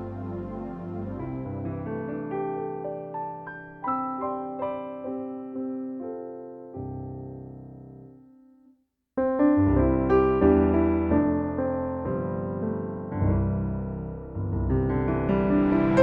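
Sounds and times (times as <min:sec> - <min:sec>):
piano chords: 0:00.0 - 0:08.4, 0:09.2 - 0:16.0.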